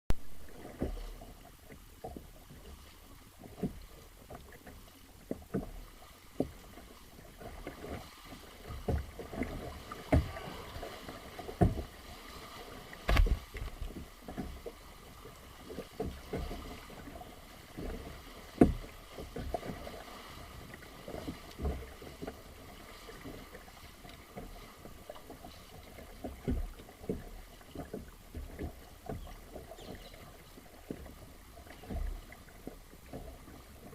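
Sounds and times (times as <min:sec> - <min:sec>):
paddle splashing in water: 0:00.1 - 0:33.9.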